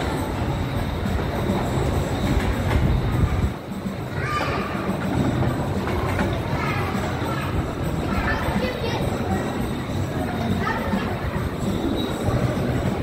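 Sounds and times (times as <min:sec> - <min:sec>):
carousel rumbling and clatter: 0:00.0 - 0:13.0
faint voices: 0:00.0 - 0:13.0.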